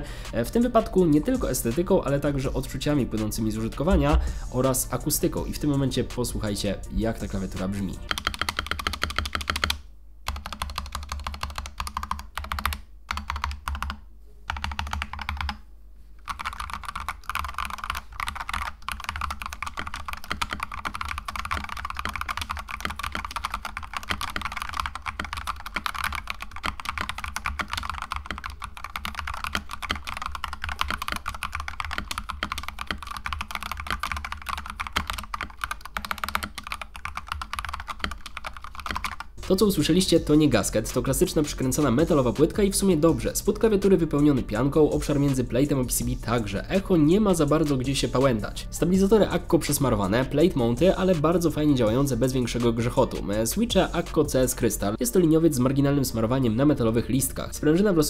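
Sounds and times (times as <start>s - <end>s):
fast typing on mechanical keyboard: 0.3s - 15.6s, 16.2s - 54.7s.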